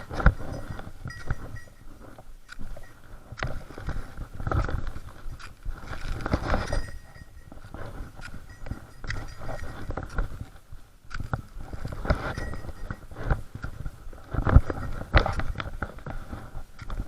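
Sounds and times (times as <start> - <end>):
footsteps on rough ground: 0.0 - 17.0.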